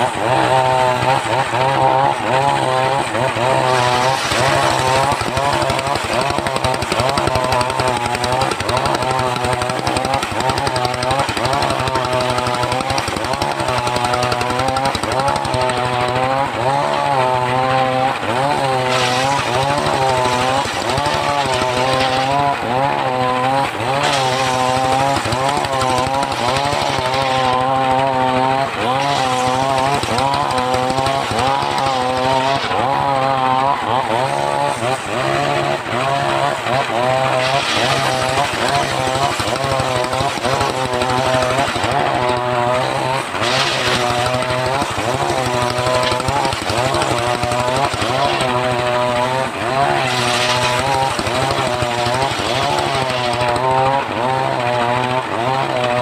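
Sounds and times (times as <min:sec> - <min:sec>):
engine-driven saw cutting wood: 0:00.0 - 0:56.0.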